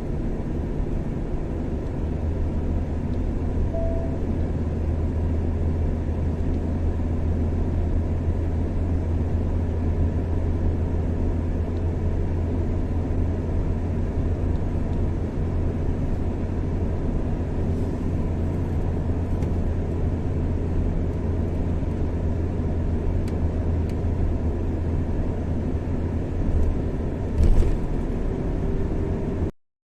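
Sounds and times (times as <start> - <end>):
car engine and road drone: 0.0 - 29.5.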